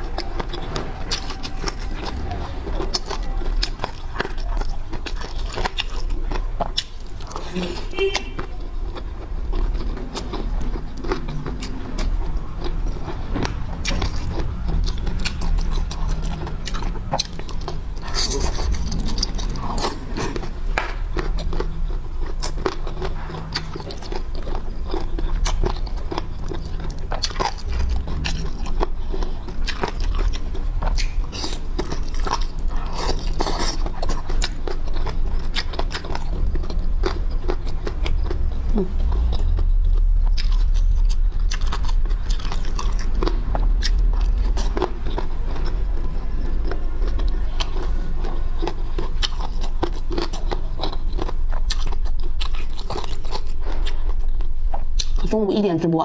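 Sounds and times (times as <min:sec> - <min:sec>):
biting and chewing: 0:00.0 - 0:55.3.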